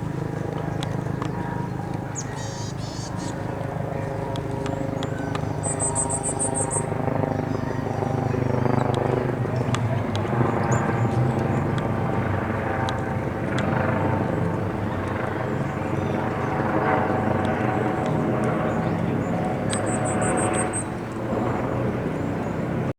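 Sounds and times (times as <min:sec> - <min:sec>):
helicopter drone: 0:00.0 - 0:22.9.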